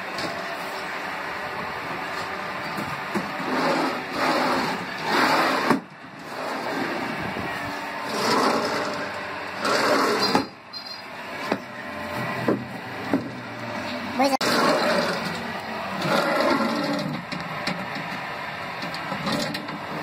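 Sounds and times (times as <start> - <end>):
sliding glass doors rolling: 0.0 - 20.0.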